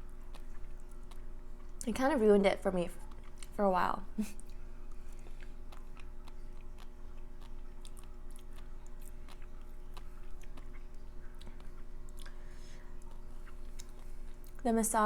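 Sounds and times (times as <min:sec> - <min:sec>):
person chewing food: 0:00.0 - 0:01.8, 0:03.0 - 0:03.6, 0:04.2 - 0:14.6.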